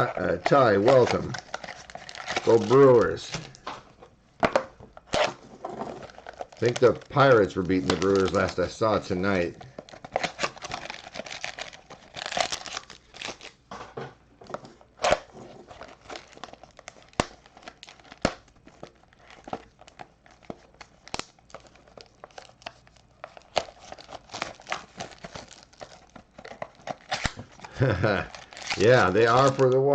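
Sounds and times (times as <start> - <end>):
packaging crinkling and tearing: 0.0 - 3.7, 4.9 - 13.7, 14.6 - 29.9.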